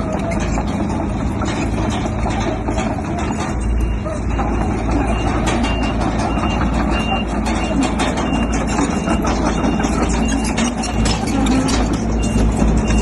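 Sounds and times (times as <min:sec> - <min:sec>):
clanking and rattling: 0:00.0 - 0:13.0
heavy machinery diesel engines: 0:00.0 - 0:13.0.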